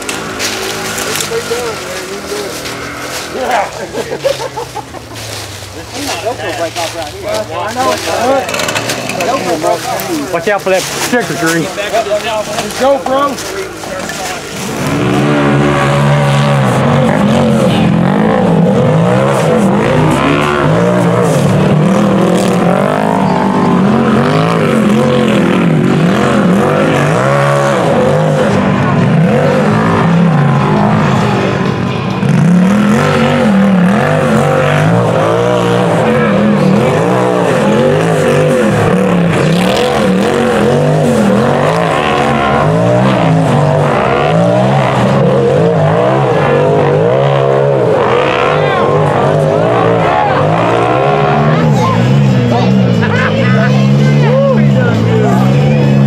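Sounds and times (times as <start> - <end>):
buggy engines revving: 0.0 - 56.0.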